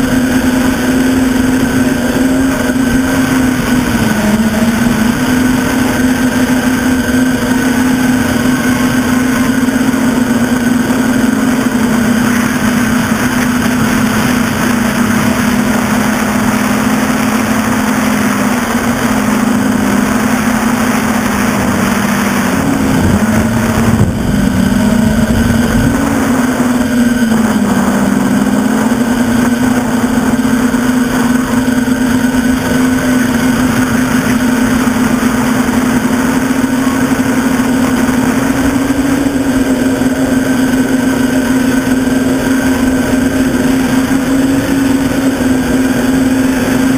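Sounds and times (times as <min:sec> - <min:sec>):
quadcopter propellers droning: 0:00.0 - 0:46.9.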